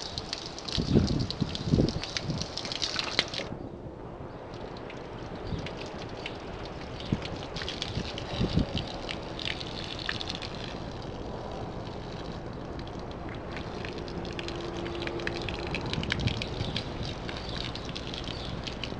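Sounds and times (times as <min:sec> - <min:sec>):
hose water spraying on car: 0:00.0 - 0:03.5, 0:04.5 - 0:18.9
splashing drops crackling: 0:00.0 - 0:03.5, 0:04.5 - 0:18.9.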